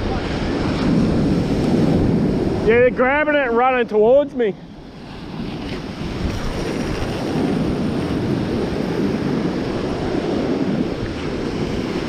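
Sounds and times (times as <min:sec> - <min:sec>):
surf washing on beach: 0:00.0 - 0:12.0
wind buffeting microphone: 0:00.0 - 0:12.0.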